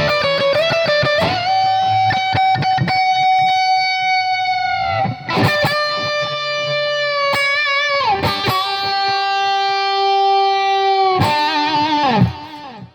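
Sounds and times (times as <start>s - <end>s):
electric guitar lead line: 0.0s - 12.9s.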